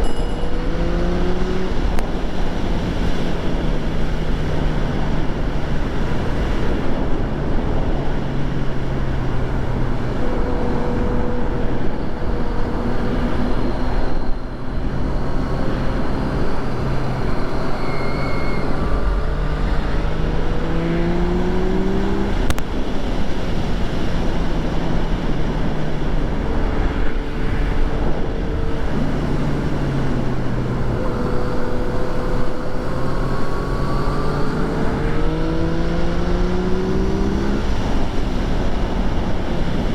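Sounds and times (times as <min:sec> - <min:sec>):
motorcycle engine revving: 0:00.0 - 0:06.9, 0:08.0 - 0:39.9
wind and road noise: 0:00.0 - 0:39.9.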